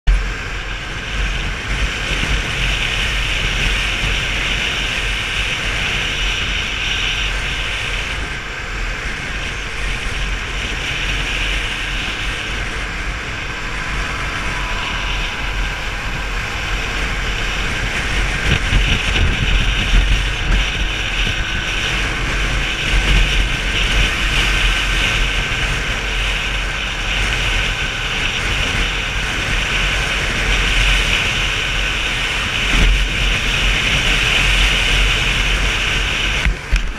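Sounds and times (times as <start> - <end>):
motorbike engine and tyres: 0.1 - 36.9
wind buffeting a camera: 0.1 - 36.9.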